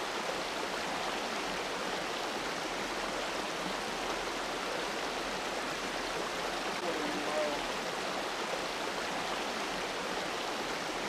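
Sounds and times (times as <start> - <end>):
waterfall splashing over rocks: 0.0 - 11.0.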